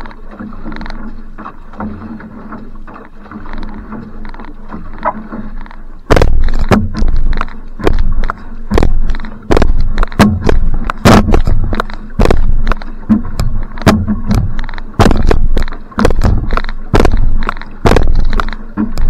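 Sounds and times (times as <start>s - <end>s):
rhythmic paddle splashes: 0.0s - 19.0s
water rushing: 0.0s - 19.0s.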